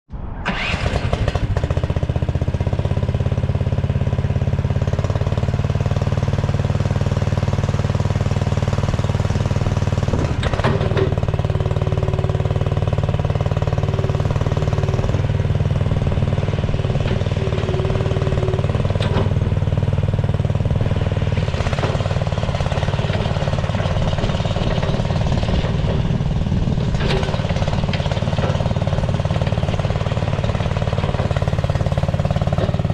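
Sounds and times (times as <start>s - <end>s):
skid steer engine running: 0.4s - 32.9s.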